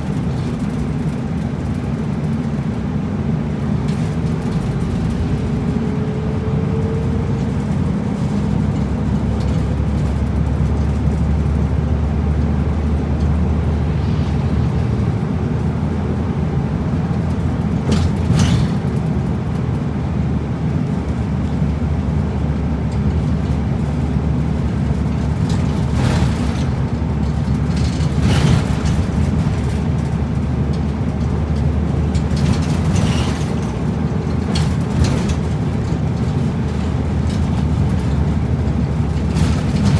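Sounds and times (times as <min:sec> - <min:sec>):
bus engine rumble: 0:00.0 - 0:39.9
road noise: 0:00.0 - 0:39.9.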